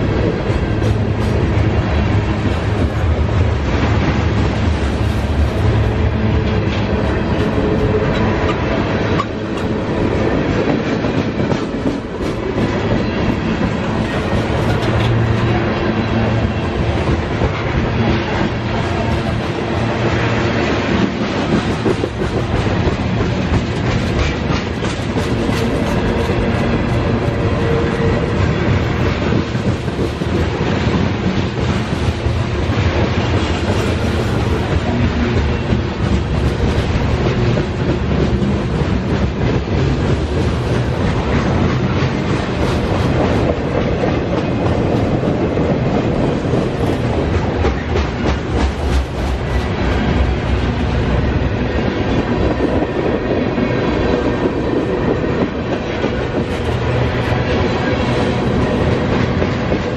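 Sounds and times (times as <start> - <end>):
freight train rolling noise: 0.0 - 59.9
steel wheels clacking over rail joints: 0.0 - 59.9.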